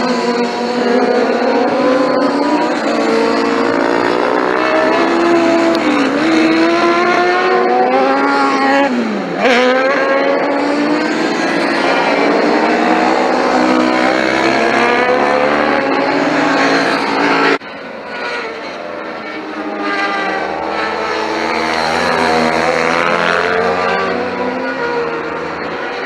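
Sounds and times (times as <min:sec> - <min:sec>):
motorcycle engines revving past: 0:00.0 - 0:26.0.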